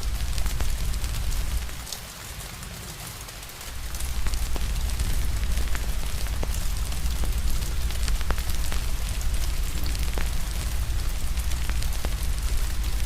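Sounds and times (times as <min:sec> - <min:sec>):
fire crackling: 0:00.0 - 0:01.9, 0:03.6 - 0:13.0
steady rain: 0:00.0 - 0:13.0.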